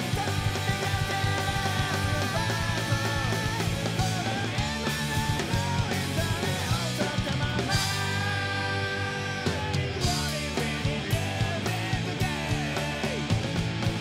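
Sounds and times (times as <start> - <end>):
person singing: 0.0 - 13.5
drums: 0.0 - 14.0
electric guitar: 0.0 - 14.0.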